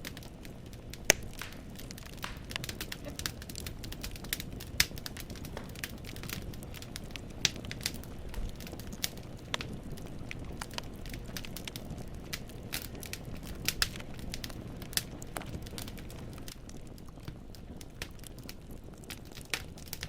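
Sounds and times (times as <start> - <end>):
burning logs popping: 0.0 - 20.0
low rumble of flame: 0.0 - 20.0.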